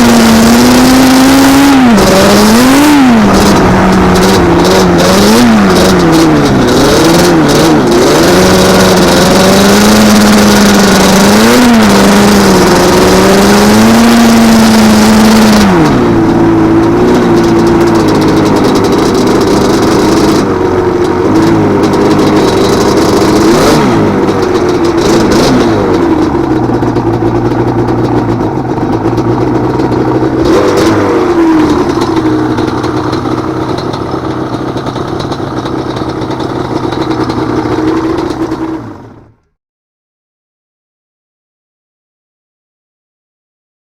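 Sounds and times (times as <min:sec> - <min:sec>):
two-stroke engine revving: 0:00.0 - 0:39.4.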